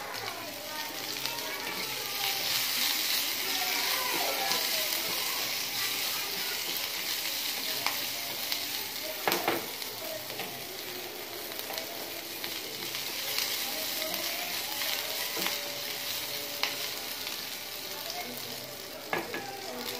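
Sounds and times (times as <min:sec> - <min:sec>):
spices sizzling in hot oil: 0:00.0 - 0:19.9.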